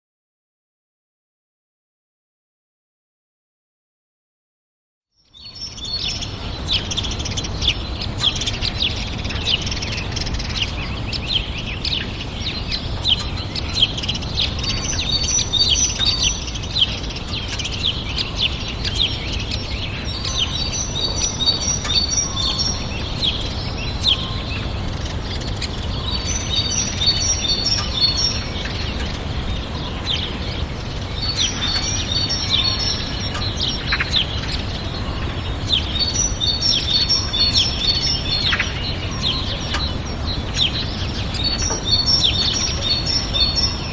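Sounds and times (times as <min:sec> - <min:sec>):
small birds chirping: 0:05.2 - 0:43.9
steady low rumble: 0:05.5 - 0:43.9.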